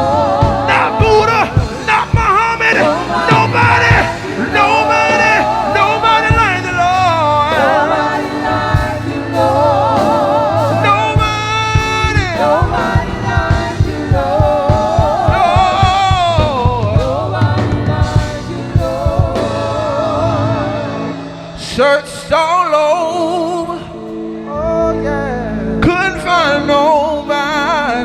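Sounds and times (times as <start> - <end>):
band accompaniment: 0.0 - 28.0
person singing with vibrato: 0.0 - 28.0.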